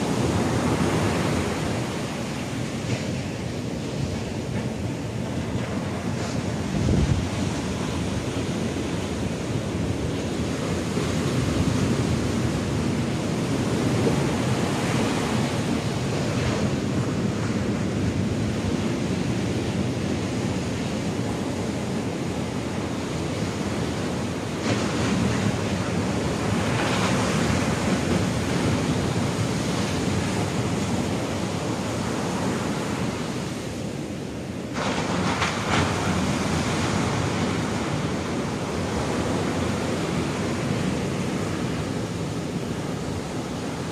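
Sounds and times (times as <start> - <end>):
ocean waves crashing on beach: 0.0 - 43.9
wind on microphone: 0.0 - 43.9.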